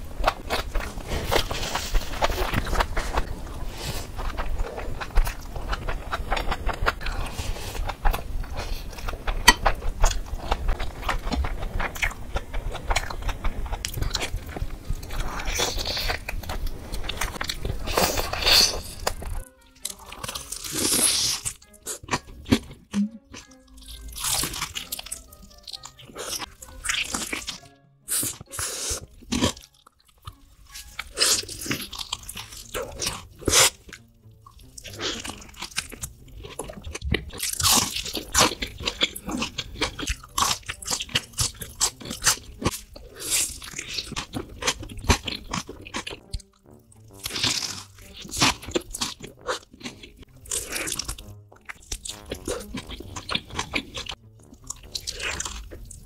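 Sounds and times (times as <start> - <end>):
biting and chewing with crunching: 0.0 - 56.0.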